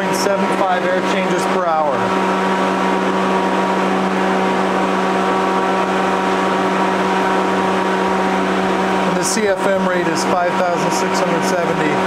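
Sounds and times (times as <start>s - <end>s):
fan humming steadily: 0.0s - 12.0s.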